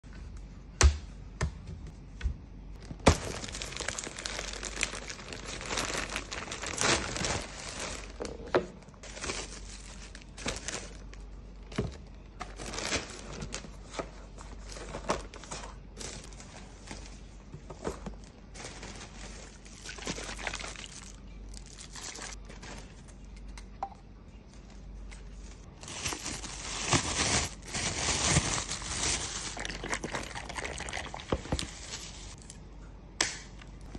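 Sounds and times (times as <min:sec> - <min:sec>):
plastic packaging crinkling: 0:02.9 - 0:23.3, 0:25.6 - 0:32.5.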